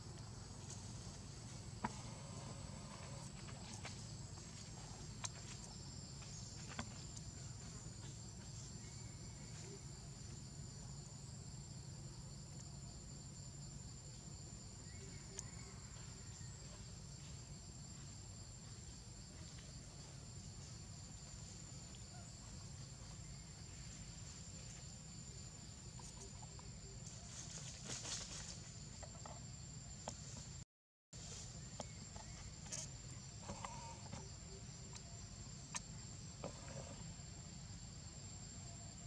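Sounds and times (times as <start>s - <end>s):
forest insects droning: 0.0s - 30.6s, 31.2s - 39.0s.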